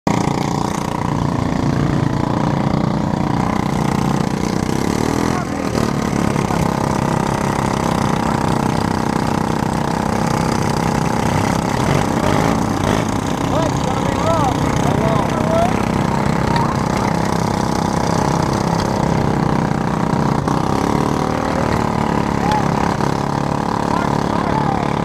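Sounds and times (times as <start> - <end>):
lawn mower engines idling: 0.1 - 25.0.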